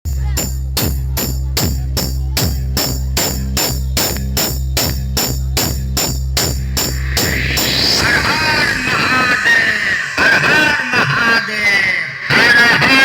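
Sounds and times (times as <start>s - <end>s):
loud electronic dance music: 0.1s - 13.0s.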